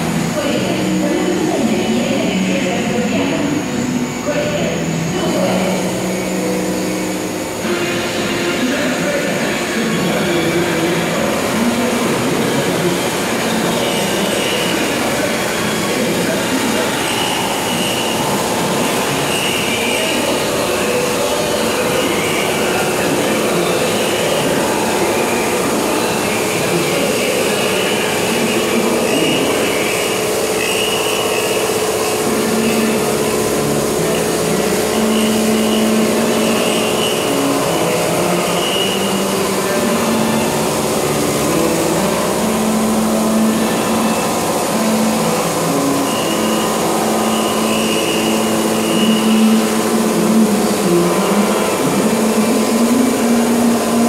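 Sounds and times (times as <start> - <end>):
wet polisher motor whine: 0.0 - 54.0.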